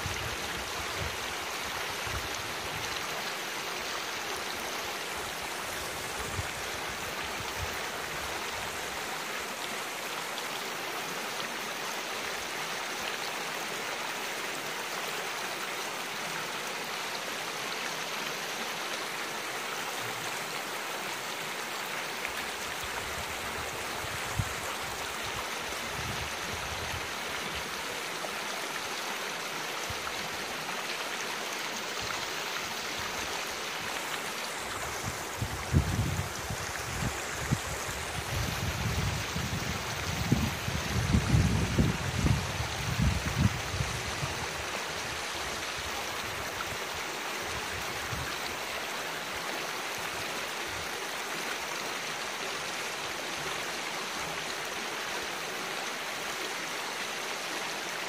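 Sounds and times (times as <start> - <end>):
creek water flowing over rocks: 0.0 - 58.0.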